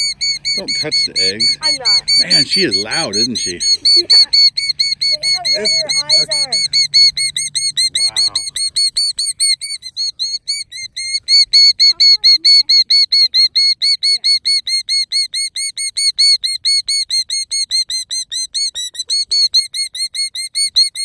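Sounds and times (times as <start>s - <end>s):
bird shrill piping alarm call: 0.0s - 21.0s.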